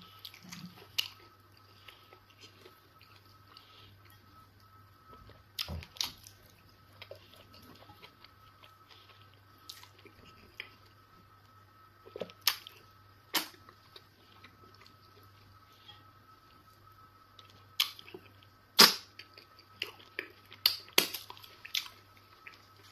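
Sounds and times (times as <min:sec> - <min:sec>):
person chewing food: 0:00.0 - 0:22.9.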